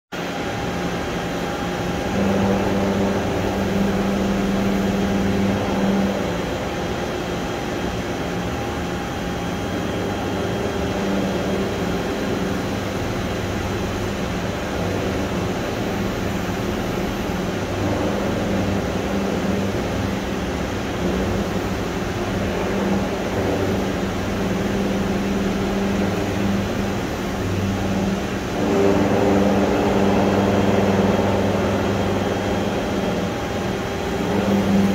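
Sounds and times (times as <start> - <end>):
boring mill machine hum: 0.2 - 34.9.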